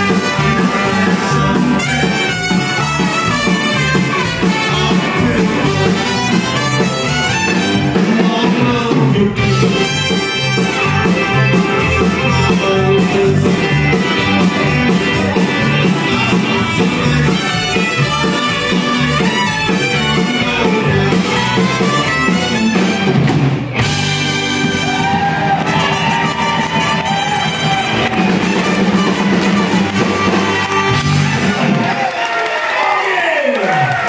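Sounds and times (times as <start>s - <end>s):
accordion: 0.0s - 8.1s, 9.4s - 24.8s, 26.8s - 31.4s
trumpet: 0.0s - 8.1s, 9.4s - 14.4s, 15.5s - 31.7s
live band playing: 0.0s - 32.8s.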